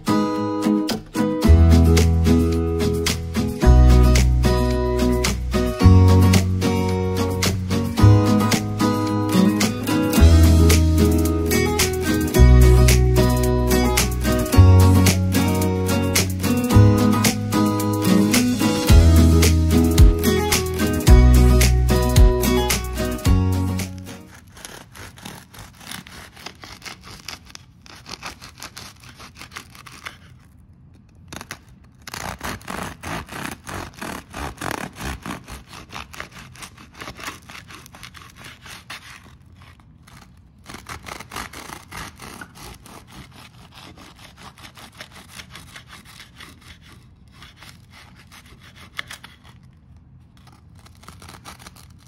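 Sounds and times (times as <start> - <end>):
knife sawing through bread: 1.7 - 30.5, 32.1 - 49.8.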